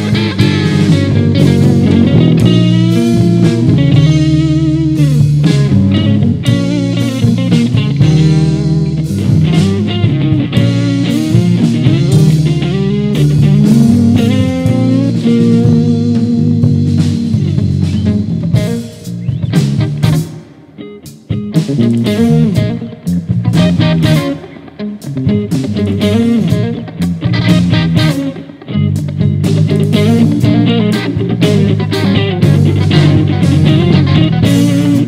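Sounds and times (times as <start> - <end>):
bass guitar: 0.0 - 35.0
drum kit: 0.0 - 35.0
electric guitar lead: 0.0 - 35.0.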